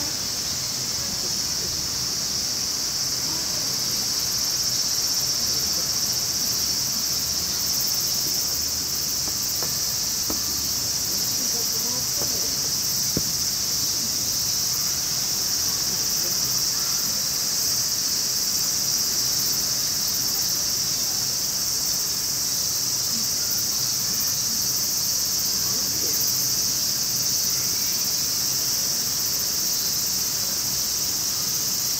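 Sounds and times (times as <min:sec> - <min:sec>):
insects droning: 0:00.0 - 0:31.9.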